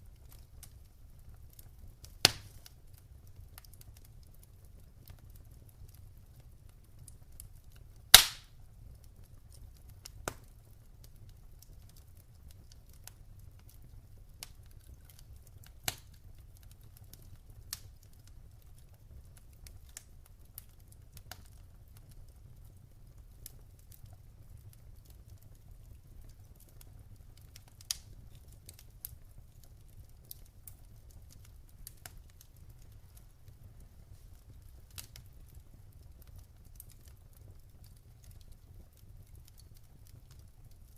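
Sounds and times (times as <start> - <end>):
fire popping: 0.0 - 40.9
wood fire crackling: 0.0 - 40.9.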